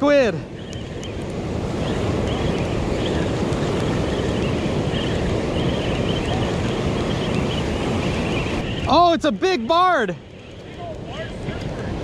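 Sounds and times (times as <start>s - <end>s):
surf breaking on rocky shore: 0.0s - 12.0s
wind buffeting microphone: 0.0s - 12.0s.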